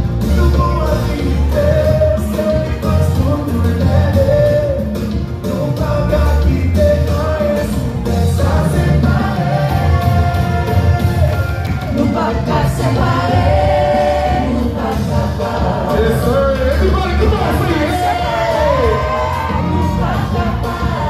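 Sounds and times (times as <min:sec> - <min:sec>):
bass line: 0:00.0 - 0:21.0
singer's voice: 0:00.0 - 0:21.0.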